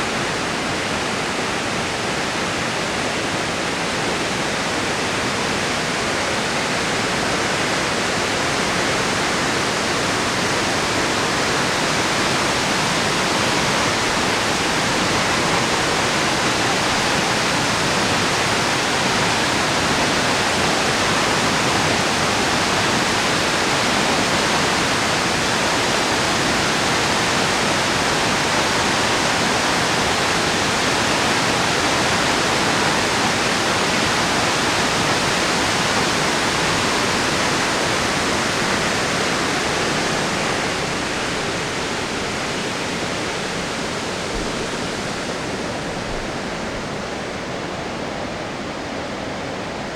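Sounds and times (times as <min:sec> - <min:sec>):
dam water rushing and falling: 0:00.0 - 0:49.9.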